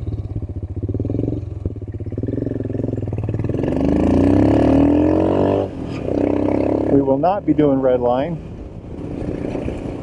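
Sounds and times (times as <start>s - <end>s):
motorcycle engine accelerating: 0.0s - 7.2s, 8.9s - 10.0s.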